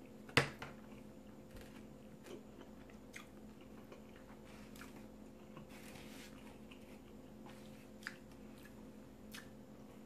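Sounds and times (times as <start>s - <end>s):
faint steady hum: 0.0s - 10.0s
quiet chewing: 0.8s - 10.0s.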